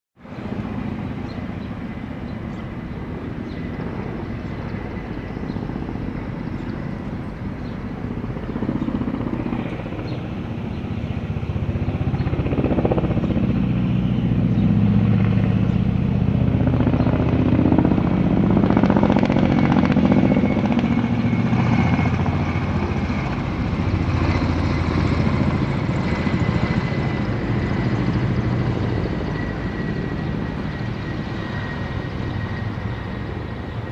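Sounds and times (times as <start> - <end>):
helicopter engine whine: 0.2 - 33.9
helicopter rotor thrum: 0.3 - 33.9.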